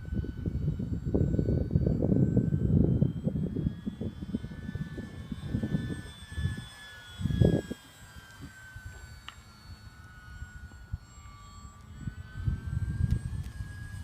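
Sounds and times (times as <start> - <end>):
model plane motor whining: 0.0 - 14.0.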